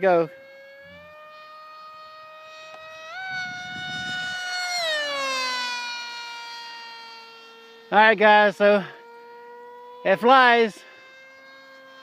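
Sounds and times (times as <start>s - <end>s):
model airplane motor whining: 0.0s - 12.0s.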